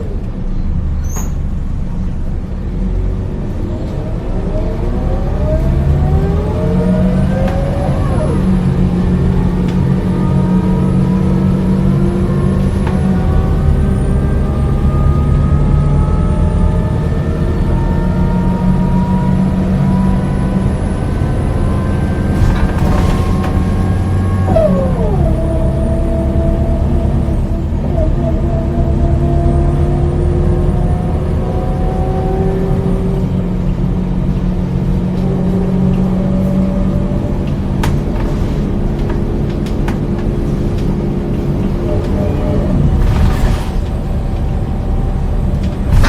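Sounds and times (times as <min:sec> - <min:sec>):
bus engine and driveline whine: 0:00.0 - 0:46.0.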